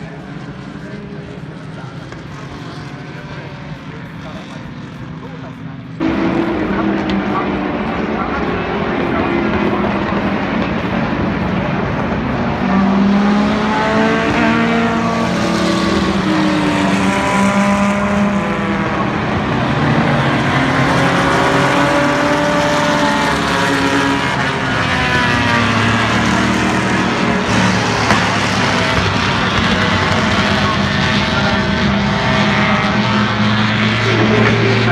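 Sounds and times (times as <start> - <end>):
race car engines at high revs: 0.0 - 34.9.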